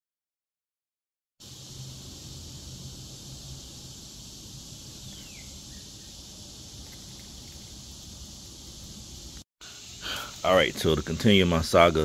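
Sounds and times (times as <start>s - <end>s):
high insect chorus: 1.4s - 12.0s.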